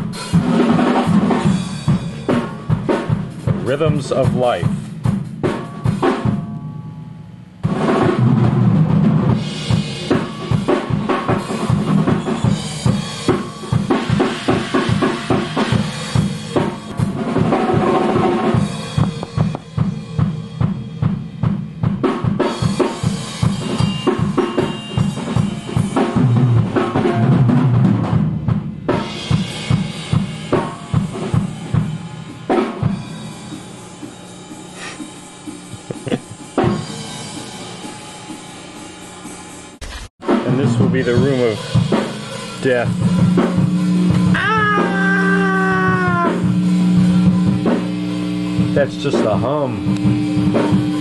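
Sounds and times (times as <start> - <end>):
drum kit played fast: 0.0 - 6.6, 7.6 - 51.0.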